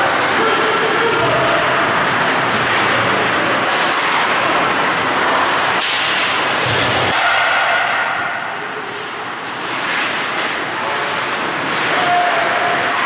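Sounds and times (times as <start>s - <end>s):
hollow rink noise: 0.0s - 13.0s.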